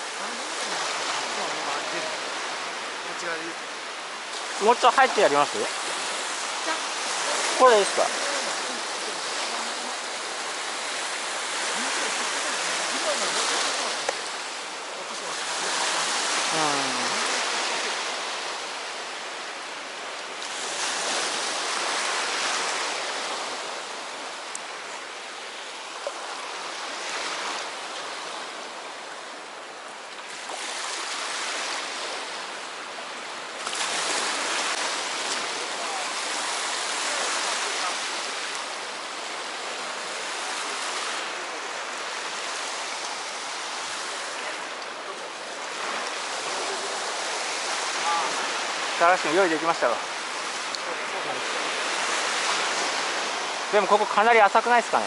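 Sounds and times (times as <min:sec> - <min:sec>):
sea surf washing ashore: 0:00.0 - 0:55.0.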